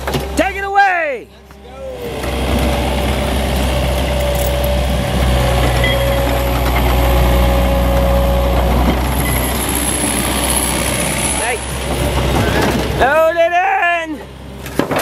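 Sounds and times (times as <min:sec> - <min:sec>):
diesel engine running: 0:00.0 - 0:14.8.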